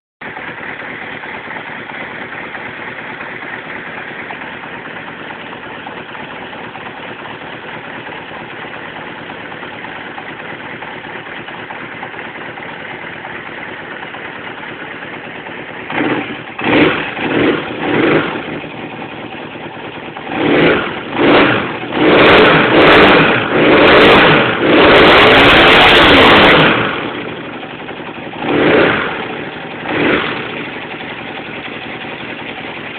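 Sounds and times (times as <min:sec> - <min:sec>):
motorcycle engine idling and revving: 0:00.2 - 0:32.9.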